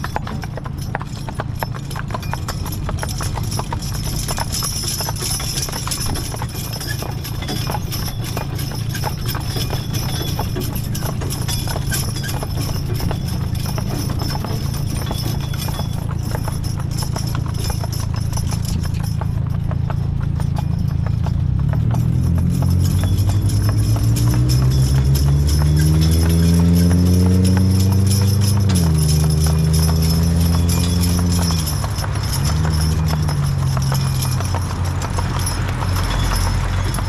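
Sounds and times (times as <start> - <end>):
horse hooves clip-clopping: 0.0 - 37.0
vehicle engine accelerating: 0.0 - 37.0.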